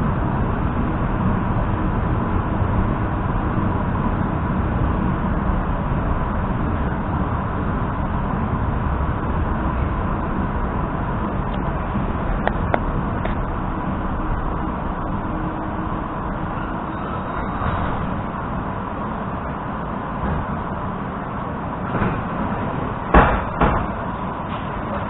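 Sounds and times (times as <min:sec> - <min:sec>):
faint constant whine: 0:00.0 - 0:25.0
train wheels rumbling: 0:00.0 - 0:25.0.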